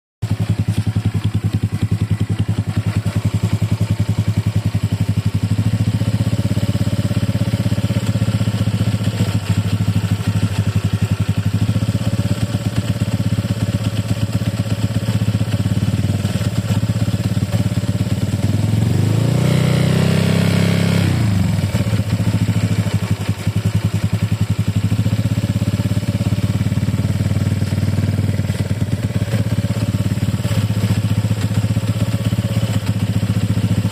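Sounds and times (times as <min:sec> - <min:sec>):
scooter engine idling and revving: 0:00.2 - 0:33.9.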